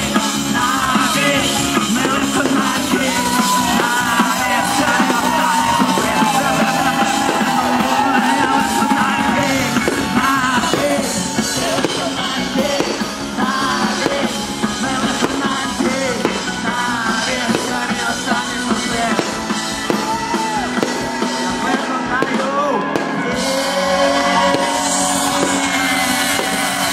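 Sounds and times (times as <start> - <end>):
person singing: 0.0 - 26.9
rock band with guitars and drums: 0.0 - 26.9.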